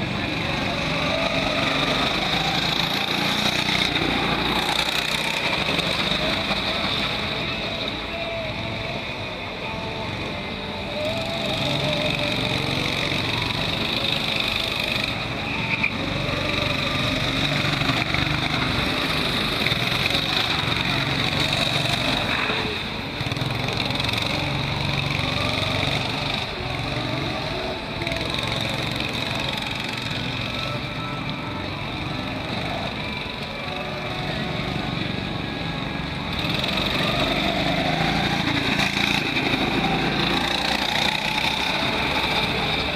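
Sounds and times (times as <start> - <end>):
go-kart engines revving: 0.0 - 42.9.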